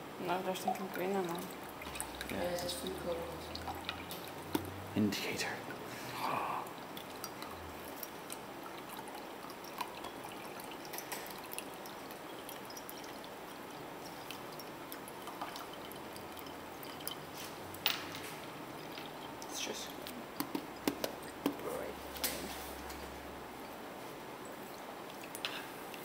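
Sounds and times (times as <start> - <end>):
faint drips: 0.2 - 26.0
liquid pouring between beakers: 0.4 - 23.9, 24.5 - 26.0.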